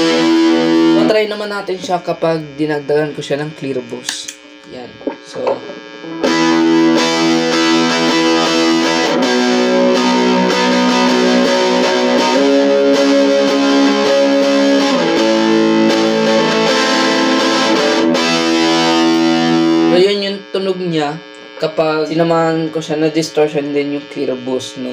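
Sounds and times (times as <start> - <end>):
distorted electric guitar chords: 0.0 - 24.9.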